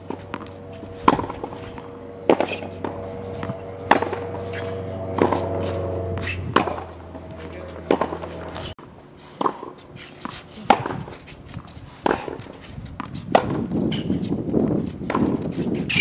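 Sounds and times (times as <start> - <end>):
tennis ball bounces: 0.0 - 8.7, 9.4 - 14.3, 14.9 - 16.0
rackets hitting tennis balls: 0.0 - 16.0.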